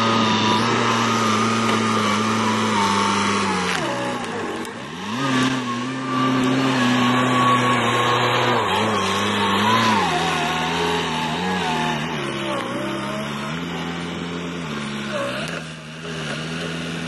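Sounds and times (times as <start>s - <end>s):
skid steer engine running hard: 0.0s - 17.0s.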